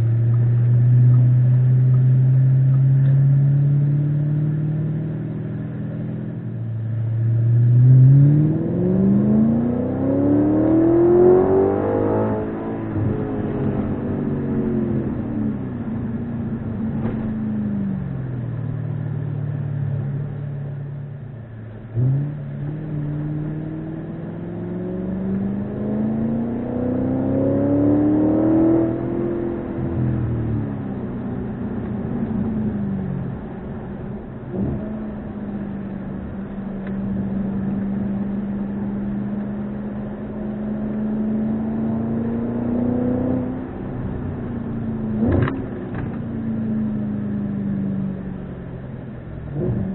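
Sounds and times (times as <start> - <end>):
car engine accelerating and cruising: 0.0 - 49.9.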